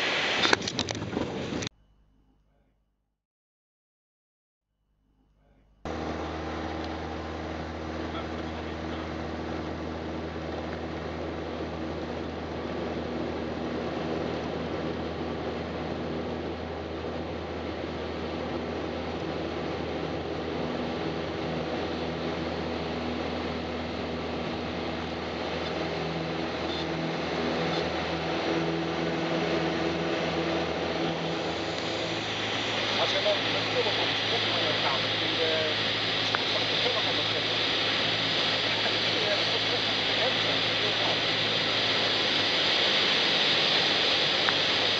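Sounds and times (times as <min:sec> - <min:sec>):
aircraft engine drone: 0:00.0 - 0:01.7, 0:05.2 - 0:44.9.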